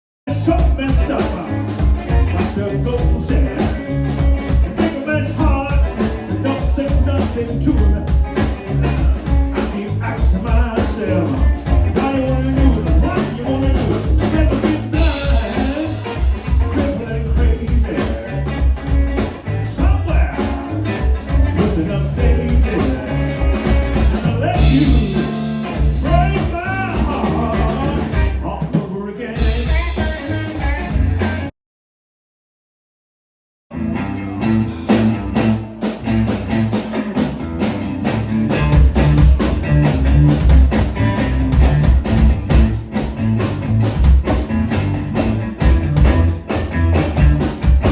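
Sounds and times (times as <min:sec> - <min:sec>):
blues band playing: 0:00.3 - 0:31.5, 0:33.7 - 0:47.9
drums steady beat: 0:00.3 - 0:31.5, 0:34.7 - 0:47.9.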